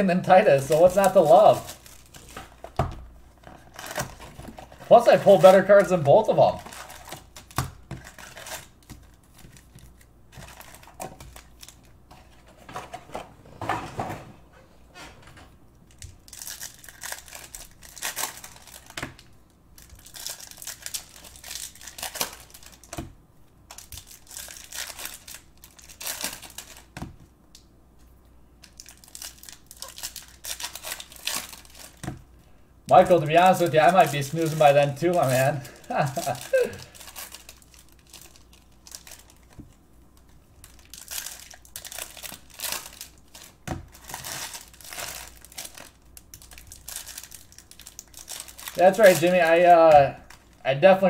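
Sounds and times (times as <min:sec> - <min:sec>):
foil wrappers crinkling and tearing: 0:00.3 - 0:12.4, 0:15.9 - 0:23.1, 0:23.7 - 0:27.1, 0:28.6 - 0:32.2, 0:32.9 - 0:50.6.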